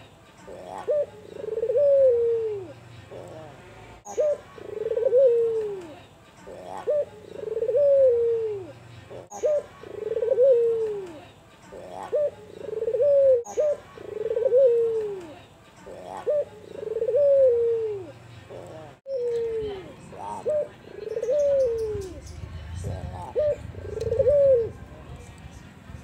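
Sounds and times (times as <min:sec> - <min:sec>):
dove cooing: 0:00.5 - 0:24.9.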